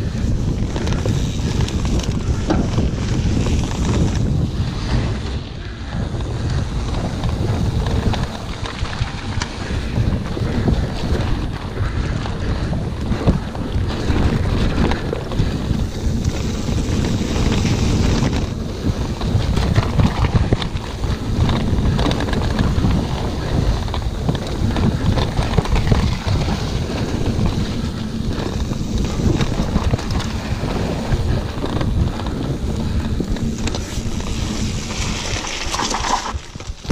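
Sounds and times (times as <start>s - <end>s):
bike knocks and rattles: 0.0s - 36.9s
bike tyres rumbling on gravel: 0.0s - 36.9s
wind buffeting microphone: 0.0s - 36.9s.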